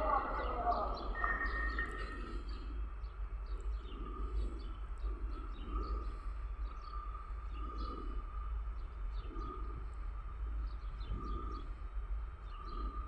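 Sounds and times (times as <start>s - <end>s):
birds chirping: 0.0s - 13.0s
distant diesel locomotive rumble: 0.0s - 13.0s.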